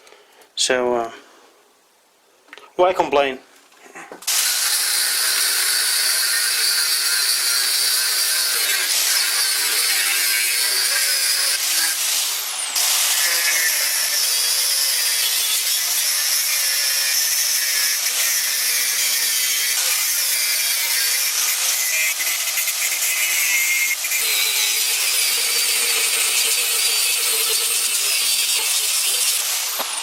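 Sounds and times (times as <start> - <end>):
power tool grinding metal: 4.2 - 30.0.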